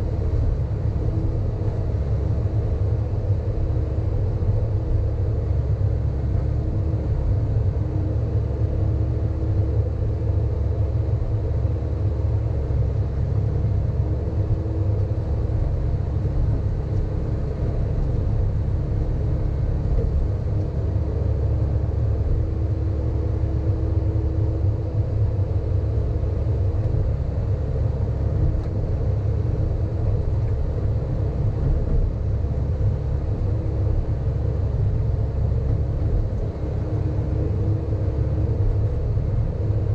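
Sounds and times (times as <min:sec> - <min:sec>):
excavator diesel engine rumbling: 0:00.0 - 0:39.9.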